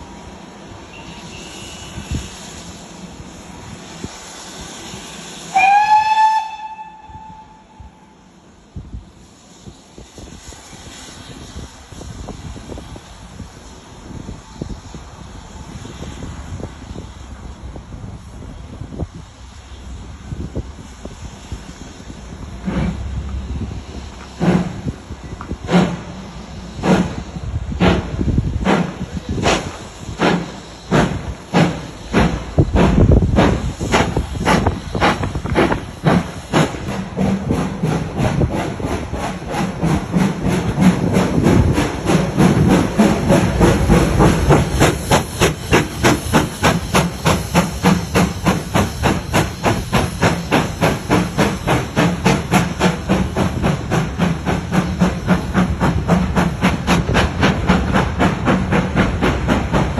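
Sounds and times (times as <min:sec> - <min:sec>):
steam locomotive chuffing: 0:00.0 - 0:59.9.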